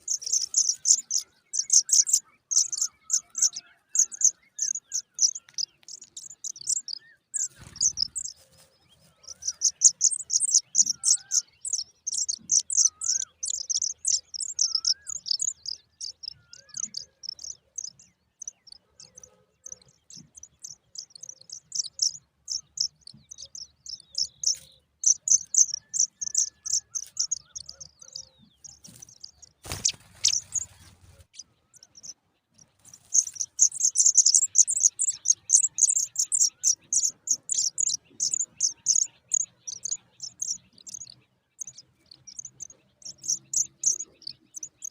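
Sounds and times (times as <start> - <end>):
nestlings begging chirps: 0.0 - 44.9.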